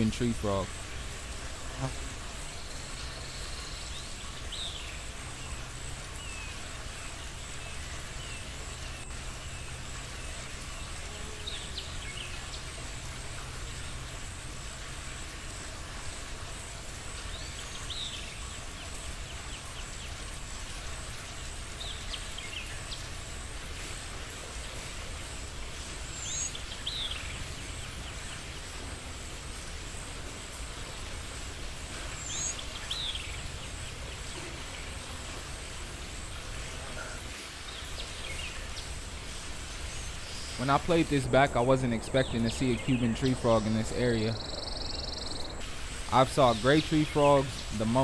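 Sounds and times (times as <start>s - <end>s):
faint high whine: 0.0s - 48.0s
low background hum: 0.0s - 48.0s.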